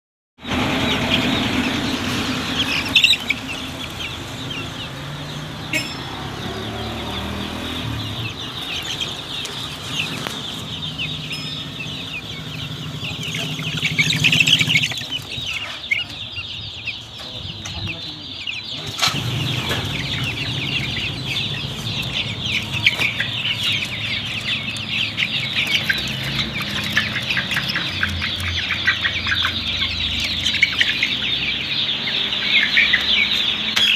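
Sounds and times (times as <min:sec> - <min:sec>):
chicks peeping: 0:00.4 - 0:33.9.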